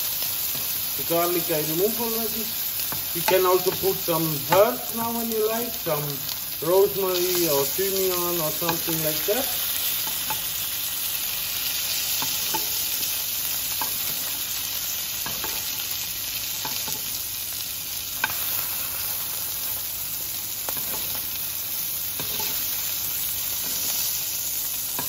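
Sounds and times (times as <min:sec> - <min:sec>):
steak sizzling in a frying pan: 0:00.0 - 0:25.0.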